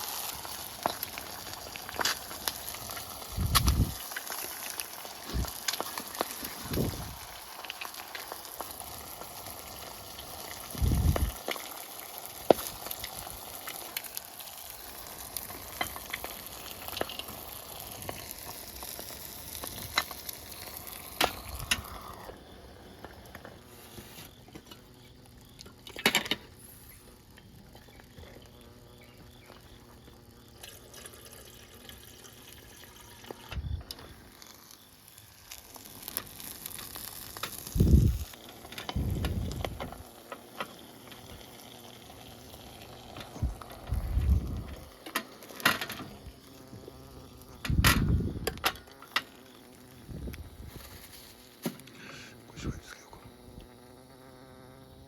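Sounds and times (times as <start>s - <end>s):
food sizzling: 0.0s - 54.5s.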